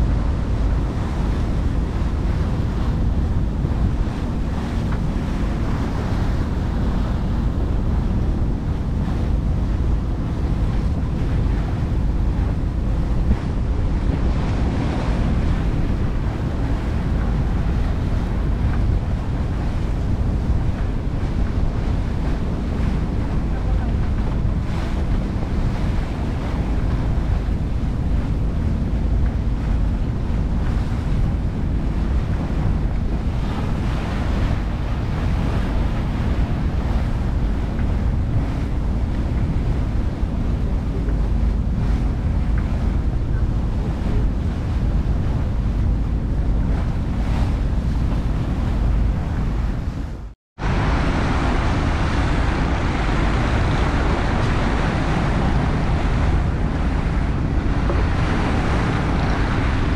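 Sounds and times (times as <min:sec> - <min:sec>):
boat engine running: 0:00.0 - 0:59.9
rushing water: 0:00.0 - 0:59.9
wind buffeting microphone: 0:00.0 - 0:59.9.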